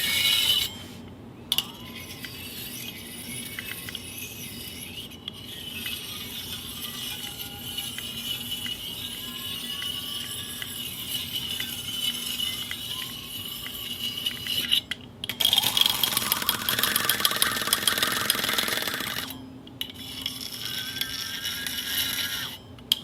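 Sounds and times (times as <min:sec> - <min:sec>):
fishing reel whirring and clicking: 0:01.5 - 0:14.8, 0:15.4 - 0:22.6.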